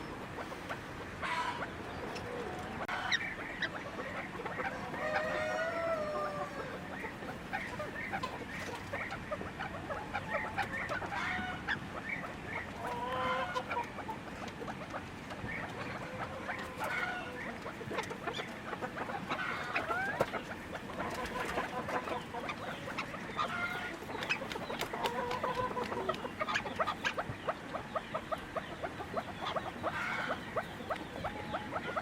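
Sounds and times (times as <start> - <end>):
chickens clucking: 0.0 - 32.0.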